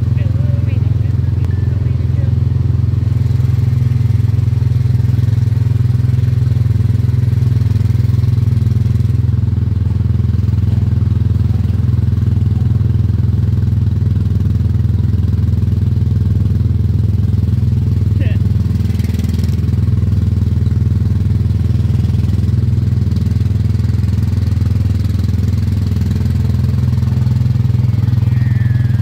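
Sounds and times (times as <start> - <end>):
kiddie ride car engine droning: 0.0 - 29.0.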